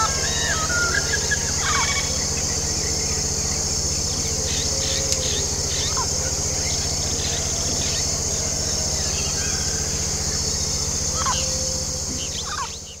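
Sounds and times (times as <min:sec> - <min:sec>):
insects chorus: 0:00.0 - 0:13.0
low fast pulsing drone: 0:00.0 - 0:13.0.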